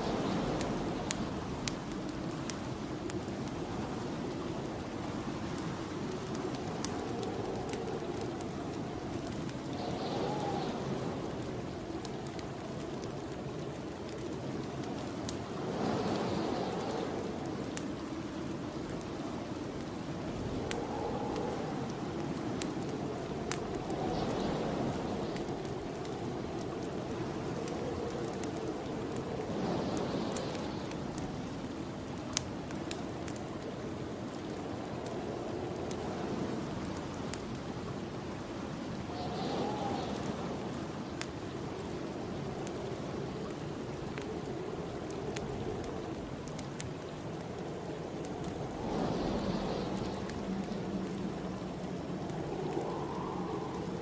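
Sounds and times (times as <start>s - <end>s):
snowstorm wind gusting: 0.0s - 54.0s
wood fire crackling: 0.0s - 54.0s.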